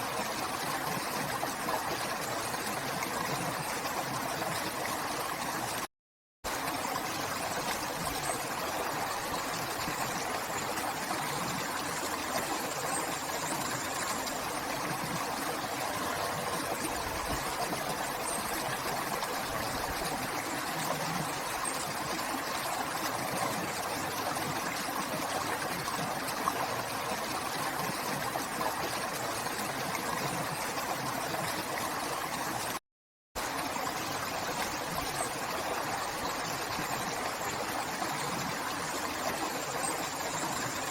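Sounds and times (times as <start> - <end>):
river water flowing: 6.5 - 32.8, 33.4 - 40.9.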